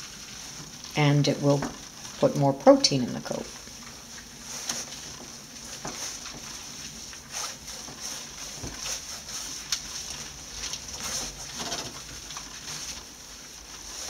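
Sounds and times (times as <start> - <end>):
wet squishing and rubbing of fur: 0.0 - 14.0.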